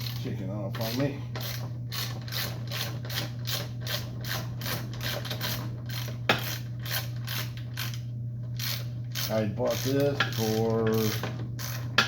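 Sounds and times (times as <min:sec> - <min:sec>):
hand ratchet strokes: 0:00.0 - 0:08.0, 0:08.6 - 0:12.0
steady low hum: 0:00.0 - 0:12.0.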